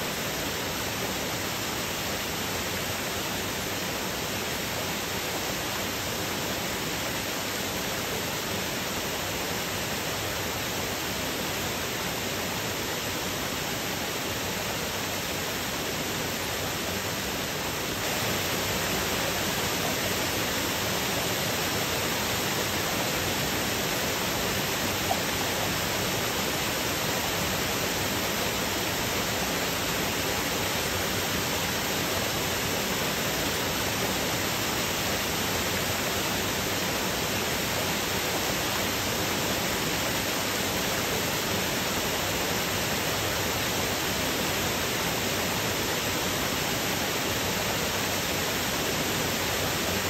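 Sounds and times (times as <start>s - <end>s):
waterfall roaring: 0.0s - 50.0s.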